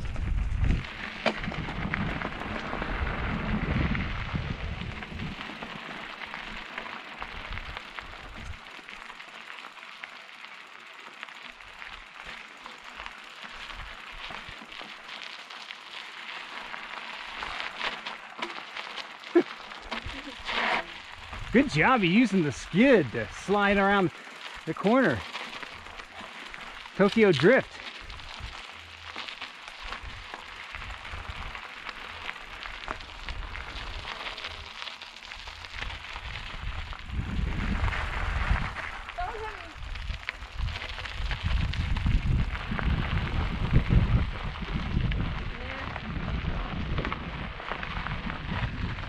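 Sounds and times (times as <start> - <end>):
bike tyres crunching on gravel: 0.0 - 49.0.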